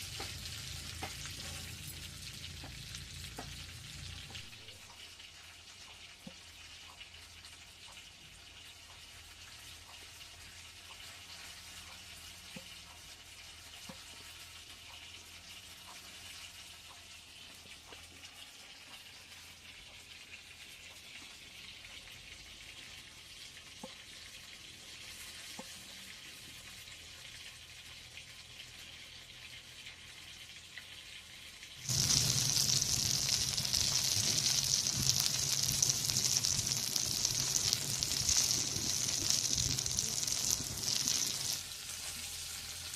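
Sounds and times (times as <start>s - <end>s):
faint hiss with small ticks: 0.0s - 42.6s
food sizzling in hot oil: 0.0s - 42.9s.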